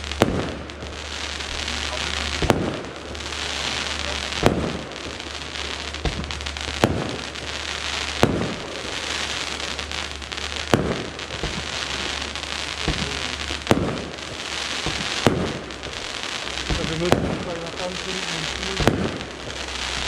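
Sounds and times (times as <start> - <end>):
fireworks crackling: 0.0 - 20.0
sharp firework shots: 0.0 - 20.0.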